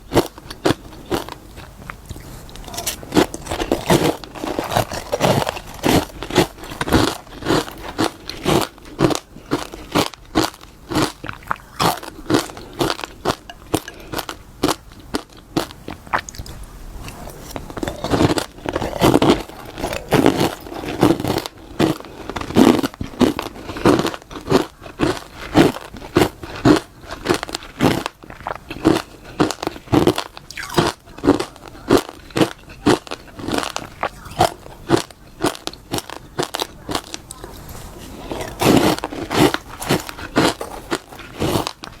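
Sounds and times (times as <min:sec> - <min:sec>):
chewing crunchy frost: 0:00.0 - 0:42.0.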